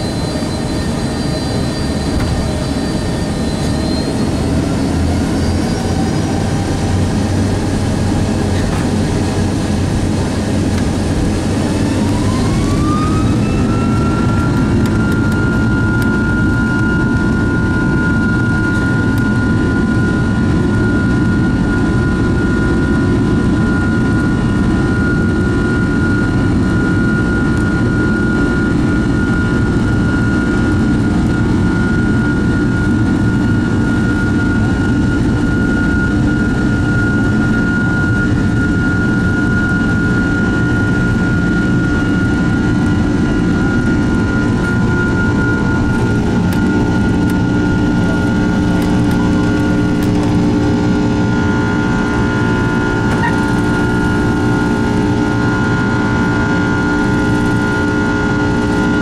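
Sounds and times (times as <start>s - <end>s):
jet engine high whine: 0.0s - 59.0s
jet engines deep rumble: 0.0s - 59.0s.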